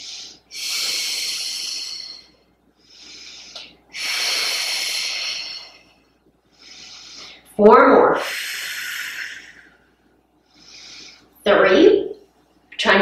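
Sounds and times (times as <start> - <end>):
woman breathing hard: 0.0 - 7.5, 8.2 - 11.4.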